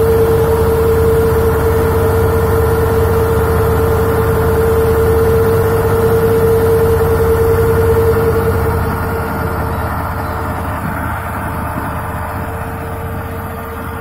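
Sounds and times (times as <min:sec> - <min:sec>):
boat engine rumbling: 0:00.0 - 0:14.0
steady engine whine: 0:00.0 - 0:14.0.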